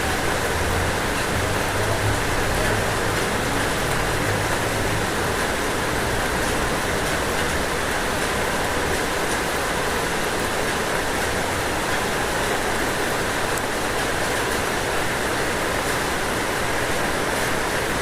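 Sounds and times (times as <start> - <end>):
rain on a roof: 0.0 - 18.0.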